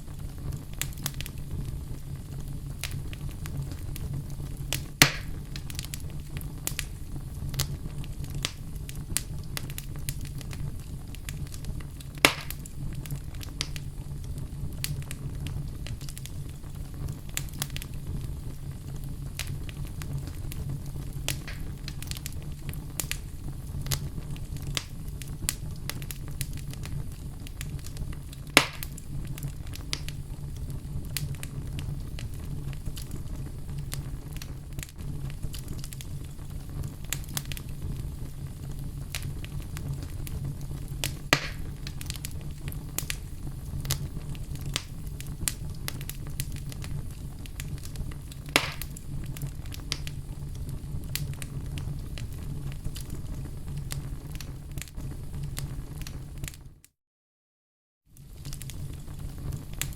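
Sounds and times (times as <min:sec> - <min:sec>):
loud fire pops: 0:00.0 - 0:56.6, 0:58.2 - 0:59.9
wood fire crackling: 0:00.0 - 0:56.8, 0:58.1 - 0:59.9
low rumble of fire: 0:00.0 - 0:56.9, 0:58.0 - 0:59.9.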